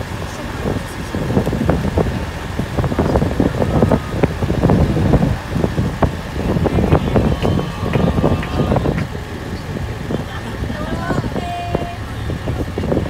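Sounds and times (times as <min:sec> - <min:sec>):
vehicle engine and road noise: 0:00.0 - 0:13.0
wind buffeting microphone: 0:00.0 - 0:13.0.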